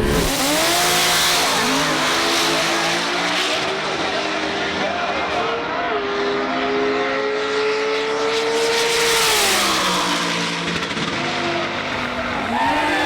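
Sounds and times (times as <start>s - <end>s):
drag racing engine at full throttle: 0.0s - 13.0s.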